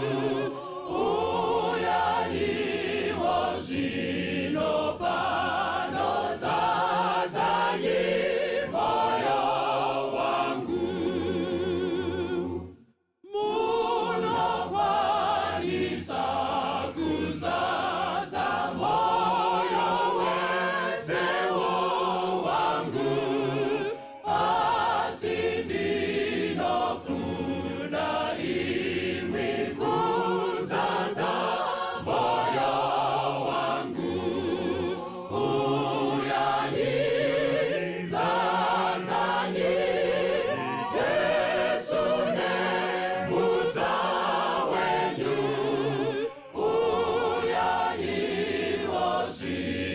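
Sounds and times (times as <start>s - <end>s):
group singing a hymn: 0.0s - 49.9s.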